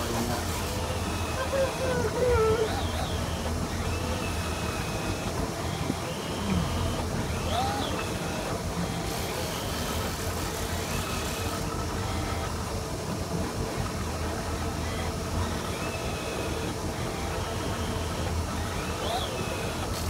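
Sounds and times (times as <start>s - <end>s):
boat engine low hum: 0.0s - 20.0s.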